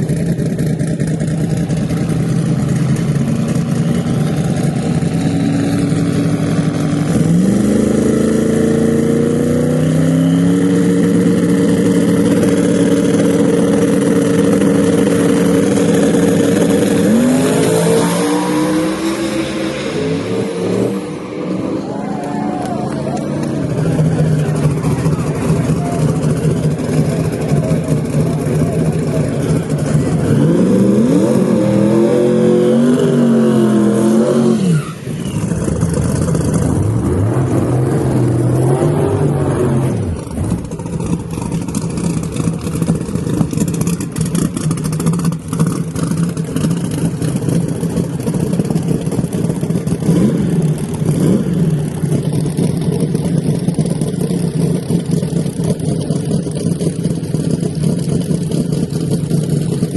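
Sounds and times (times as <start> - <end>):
low drag car engine note: 0.0 - 50.1
engine revving: 0.0 - 59.9.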